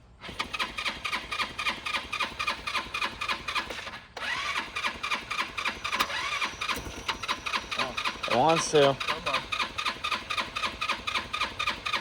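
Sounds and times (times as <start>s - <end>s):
scooter engine cranking: 0.2s - 12.0s.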